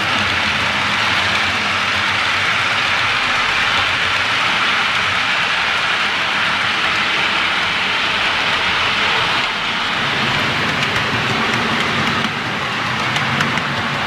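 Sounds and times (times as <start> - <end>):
model train rolling rumble: 0.0 - 14.0
wheels clicking over rail joints: 0.0 - 14.0.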